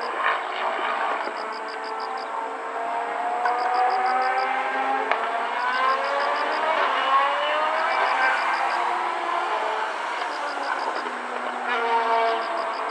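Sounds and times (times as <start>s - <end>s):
racing car engines accelerating: 0.0s - 12.9s.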